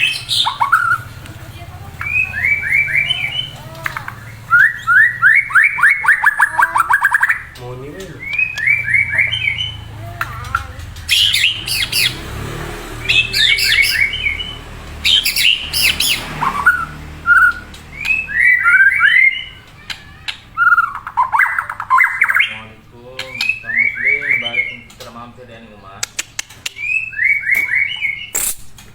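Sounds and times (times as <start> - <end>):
songbird chirping: 0.0 - 28.5.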